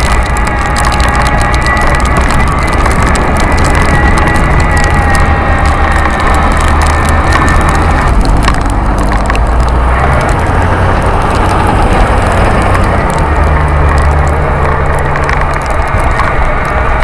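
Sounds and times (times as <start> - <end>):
crackle of small clicks: 0.0 - 17.0
faint whine: 0.0 - 17.0
wind buffeting microphone: 0.0 - 17.0.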